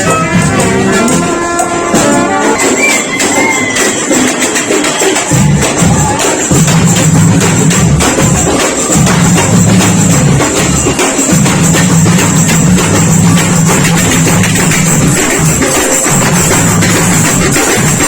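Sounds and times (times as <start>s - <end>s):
drums: 0.0s - 18.0s
loud music: 0.0s - 18.0s
tambourine jingles: 0.0s - 18.0s.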